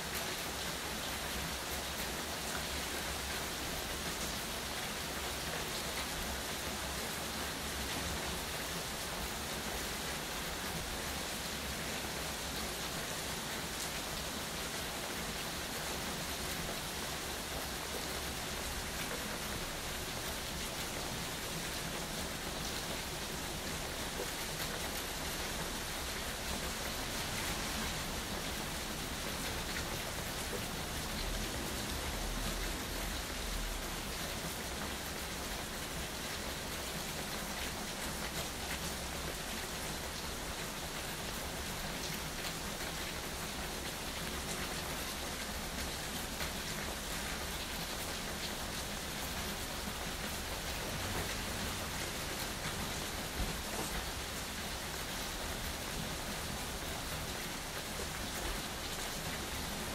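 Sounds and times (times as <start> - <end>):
steady rain falling: 0.0 - 59.9
raindrops tapping on surfaces: 7.4 - 59.9.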